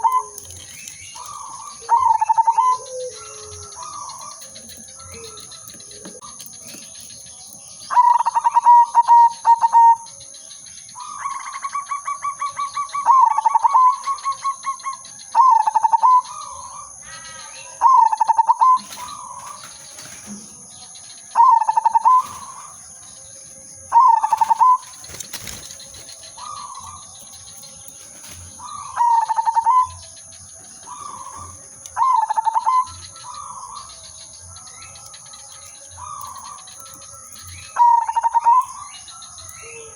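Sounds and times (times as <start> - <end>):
dove cooing: 0.0 - 10.1, 11.0 - 17.0, 21.4 - 22.8, 23.9 - 34.2, 35.0 - 39.9.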